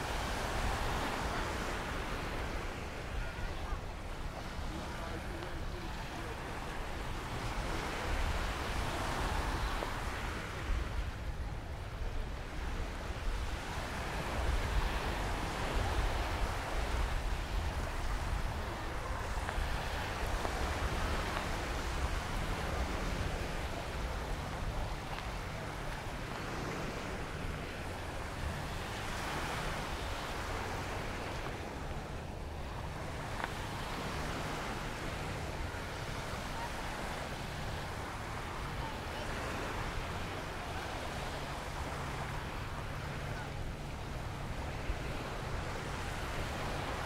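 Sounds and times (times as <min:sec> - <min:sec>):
surf washing on sandy beach: 0:00.0 - 0:47.0
wind rumbling on microphone: 0:00.0 - 0:47.0.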